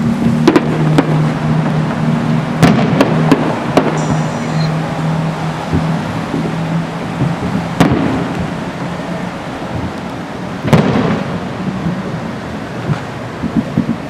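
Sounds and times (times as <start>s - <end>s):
fireworks booming with echo: 0.0s - 14.0s
rumble of fireworks display: 0.0s - 14.0s.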